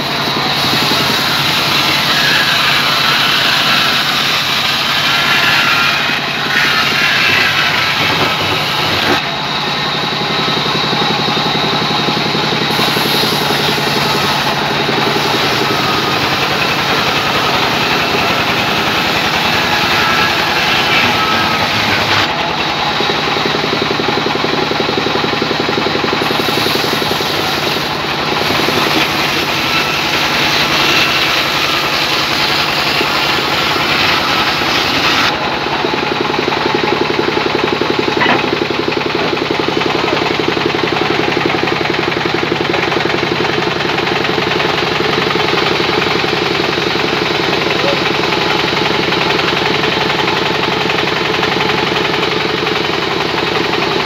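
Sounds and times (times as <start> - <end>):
band sawmill cutting timber: 0.0 - 54.0.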